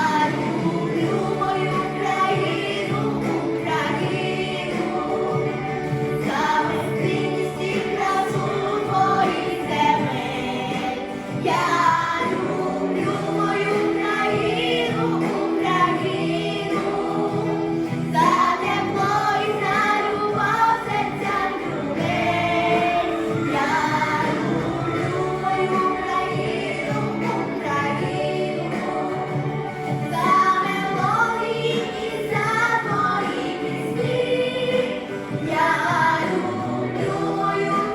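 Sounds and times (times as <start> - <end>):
choir-like voices: 0.0 - 37.9
instrumental backing music: 0.0 - 37.9.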